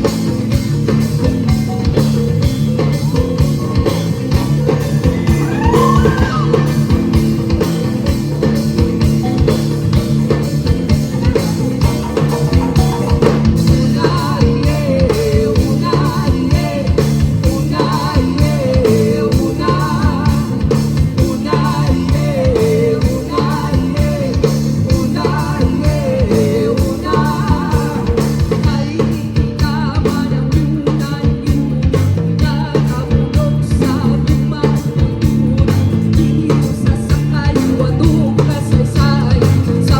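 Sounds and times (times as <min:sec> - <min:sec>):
drums: 0:00.0 - 0:39.9
electric guitar: 0:00.0 - 0:39.9
person singing: 0:03.2 - 0:08.6, 0:11.2 - 0:39.9.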